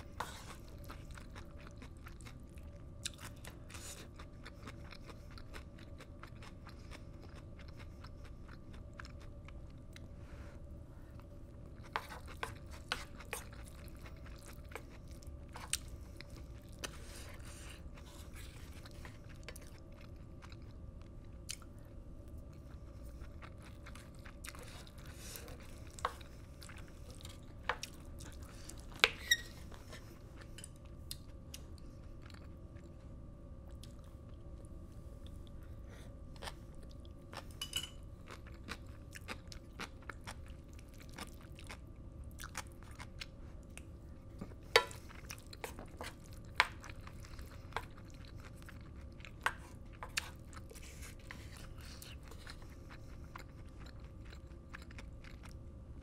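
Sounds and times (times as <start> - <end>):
close chewing: 0.0 - 10.1, 11.2 - 29.0, 38.2 - 55.6
faint steady hum: 0.0 - 56.0.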